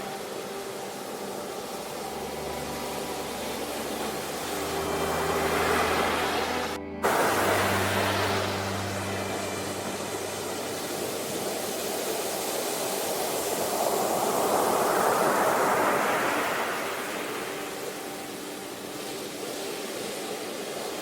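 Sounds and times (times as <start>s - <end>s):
ocean waves breaking: 0.0s - 21.0s
sea noise wash: 0.0s - 21.0s.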